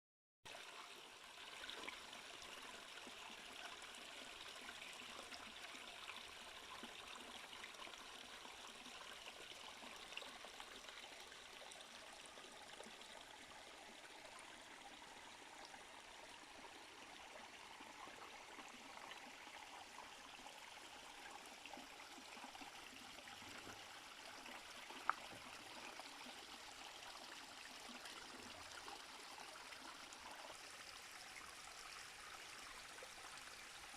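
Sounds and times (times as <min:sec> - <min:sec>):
stream flowing: 0:00.5 - 0:33.9.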